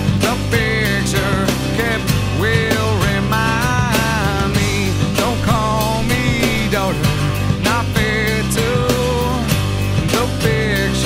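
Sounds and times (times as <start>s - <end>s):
rock song with guitar and drums: 0.0s - 11.0s.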